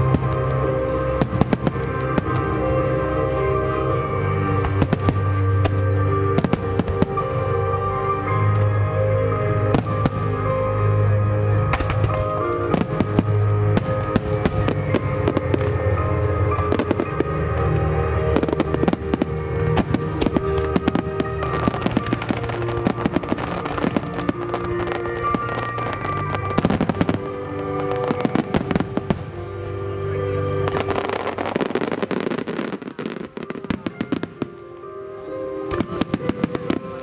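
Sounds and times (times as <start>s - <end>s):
fireworks bursts and crackles: 0.0s - 37.0s
music: 0.0s - 37.0s.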